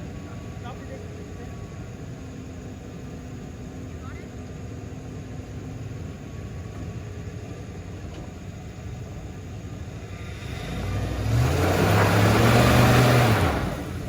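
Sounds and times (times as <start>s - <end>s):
vehicle engine approaching: 0.0s - 14.0s.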